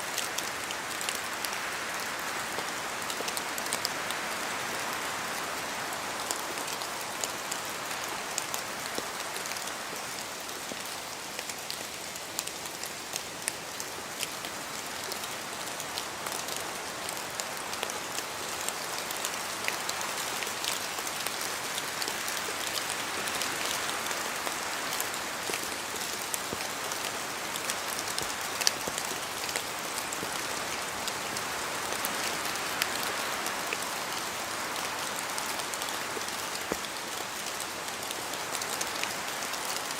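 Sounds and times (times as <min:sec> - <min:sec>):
rain dripping from trees: 0:00.0 - 0:39.9
steady rushing rain hiss: 0:00.0 - 0:39.9.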